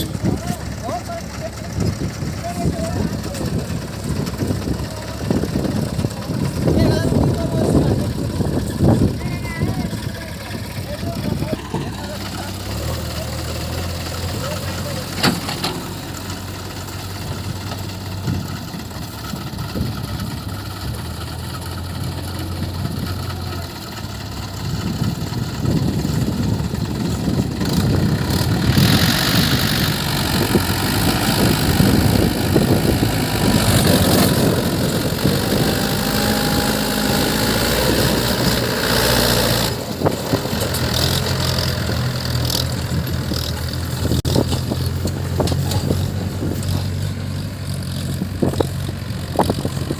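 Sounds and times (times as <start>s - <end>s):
diesel engine idling and working: 0.0s - 49.9s.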